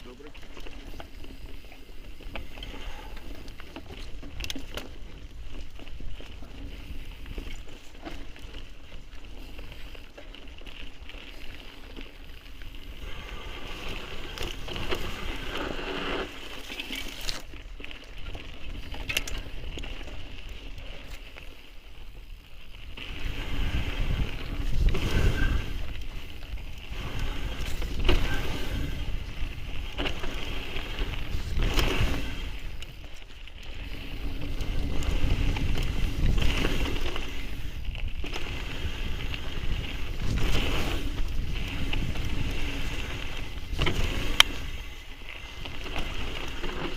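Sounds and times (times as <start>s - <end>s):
bike chain and frame rattling: 0.0s - 46.9s
bike tyres rolling on dirt: 0.0s - 46.9s.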